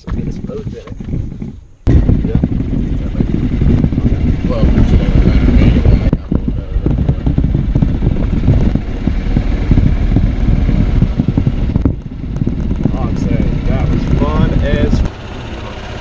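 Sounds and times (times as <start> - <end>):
wind buffeting microphone: 0.0 - 15.1
golf cart driving: 0.0 - 16.0.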